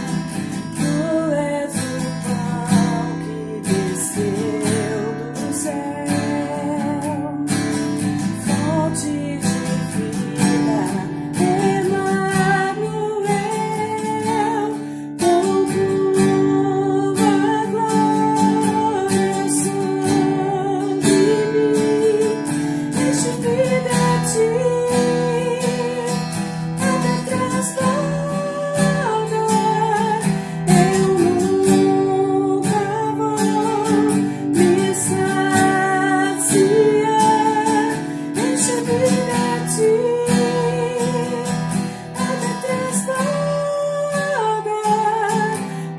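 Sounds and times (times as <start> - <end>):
strummed acoustic guitar: 0.0 - 45.9
woman singing: 0.0 - 45.9.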